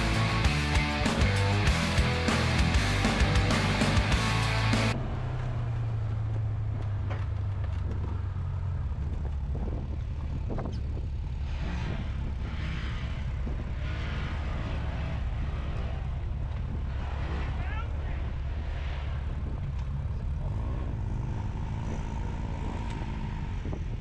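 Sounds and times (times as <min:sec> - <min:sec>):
utility vehicle engine droning: 0:00.0 - 0:24.0.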